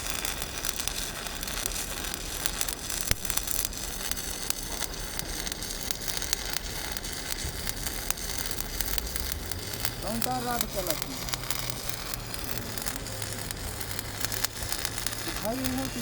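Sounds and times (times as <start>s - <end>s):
welding arc crackling and sizzling: 0.0s - 16.0s.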